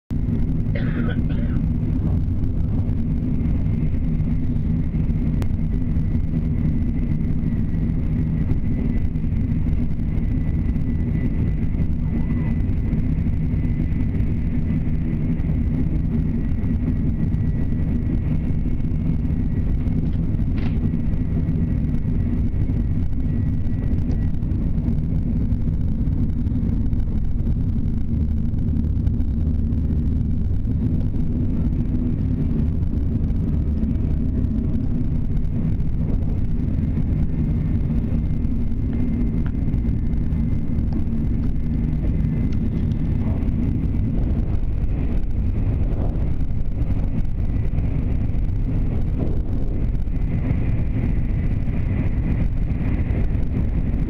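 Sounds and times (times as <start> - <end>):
train rumble inside cabin: 0.0 - 54.0
faint high whine: 0.1 - 54.0.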